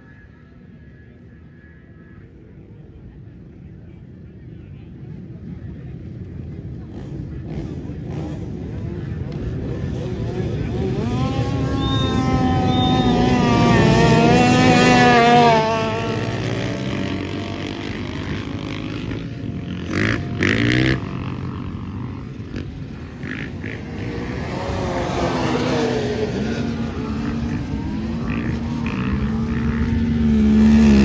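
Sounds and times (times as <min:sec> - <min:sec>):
snowmobile engines: 0:04.8 - 0:31.0.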